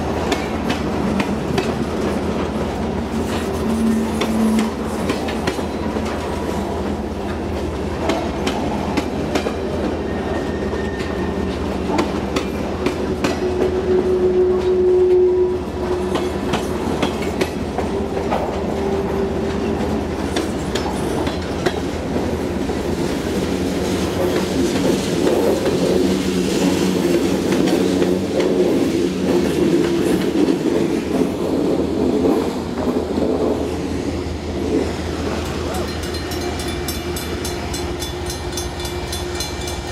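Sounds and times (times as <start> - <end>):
train wheels clacking on rail joints: 0.0 - 33.8, 34.6 - 39.9
freight train rumble: 0.0 - 39.9.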